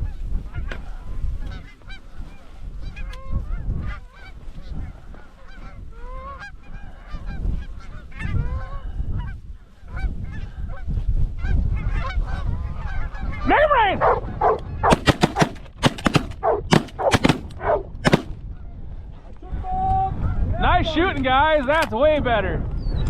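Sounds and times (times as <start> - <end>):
wind rumble on microphone: 0.0 - 15.5, 16.4 - 23.0.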